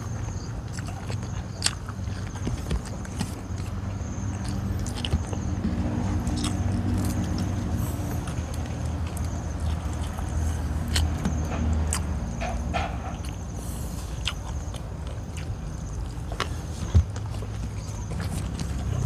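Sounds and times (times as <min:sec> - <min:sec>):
chewing and crunching food: 0:00.0 - 0:19.0
steady low hum: 0:00.0 - 0:19.0.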